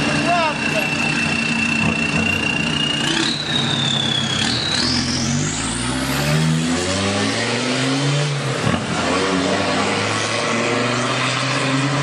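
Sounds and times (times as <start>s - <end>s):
diesel car engine accelerating: 0.0s - 12.0s.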